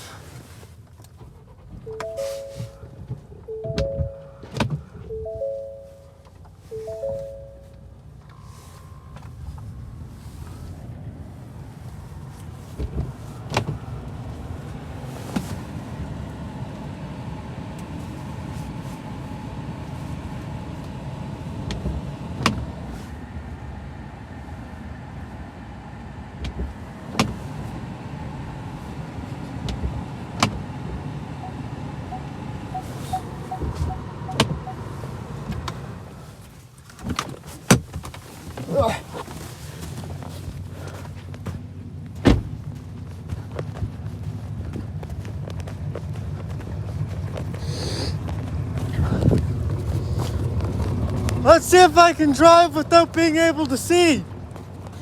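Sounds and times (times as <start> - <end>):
car engine running: 0.1 - 55.0.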